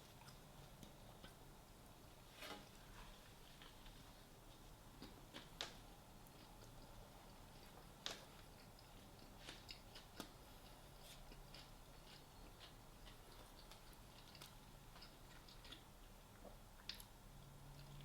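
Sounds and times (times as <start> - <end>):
person chewing food: 0.0 - 1.4, 3.5 - 18.0.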